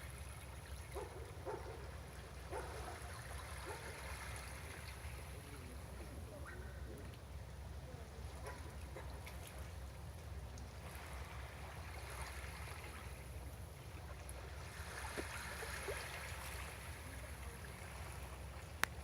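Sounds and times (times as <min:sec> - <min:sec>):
water lapping against breakwater: 0:00.0 - 0:19.0.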